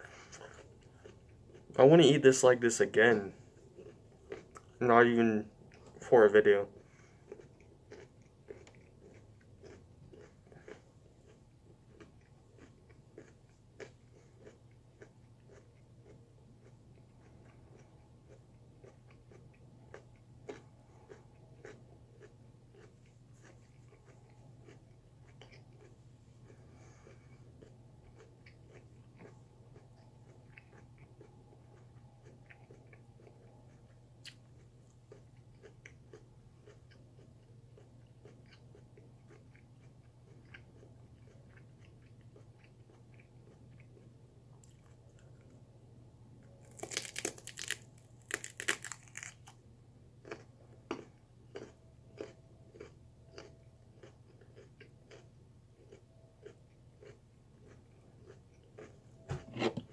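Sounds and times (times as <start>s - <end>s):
crunching and chewing raw vegetable: 0.0s - 59.9s.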